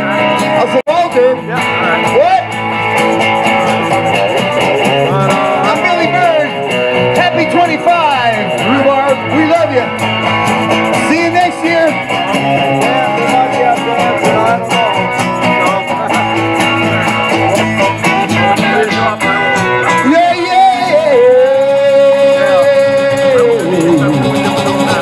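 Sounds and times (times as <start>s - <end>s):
electric and acoustic guitars: 0.0s - 25.0s
tambourine shaken: 0.0s - 25.0s.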